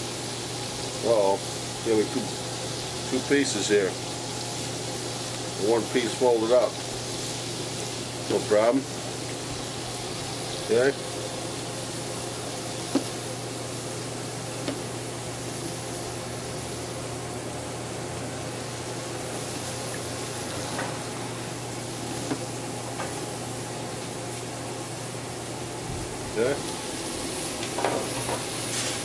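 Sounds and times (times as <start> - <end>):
chicken sizzling in a skillet: 0.0 - 25.6, 26.3 - 29.0.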